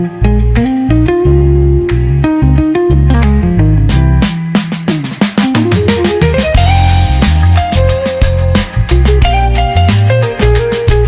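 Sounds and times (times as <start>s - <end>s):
guitar and drums music: 0.0s - 11.0s.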